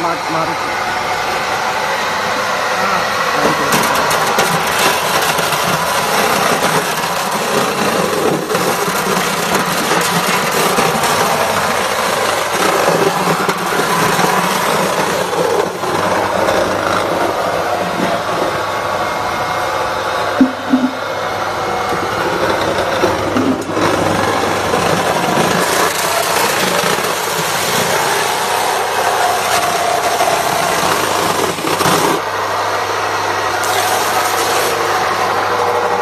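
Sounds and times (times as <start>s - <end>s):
electric pulverizer grinding: 0.0s - 36.0s.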